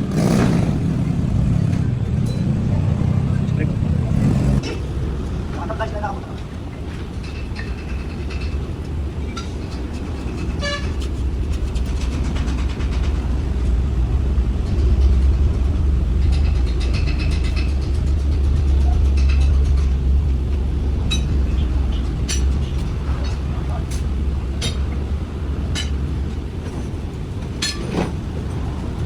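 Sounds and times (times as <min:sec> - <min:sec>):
machine droning: 0:00.0 - 0:29.0.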